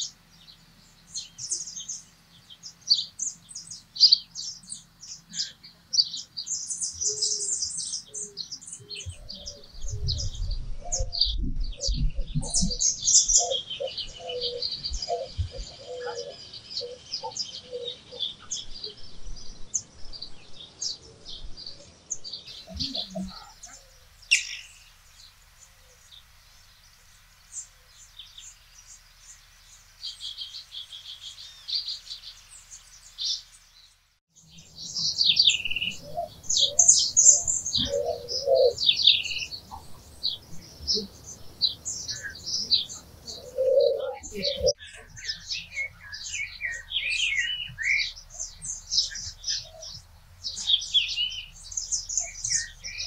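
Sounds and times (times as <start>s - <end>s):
small birds chirping and singing: 0.0s - 53.0s.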